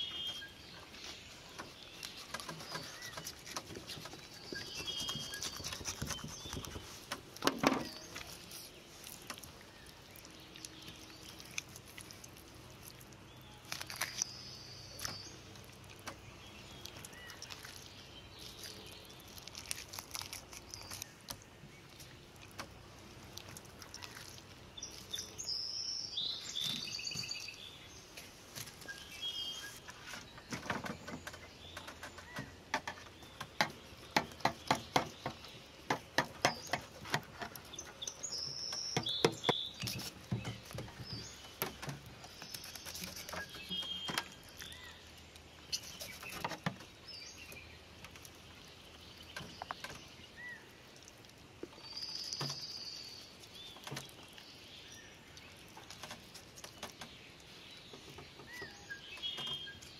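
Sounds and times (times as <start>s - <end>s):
small birds chirping: 0.0s - 59.9s
wet handling noises: 0.0s - 59.9s.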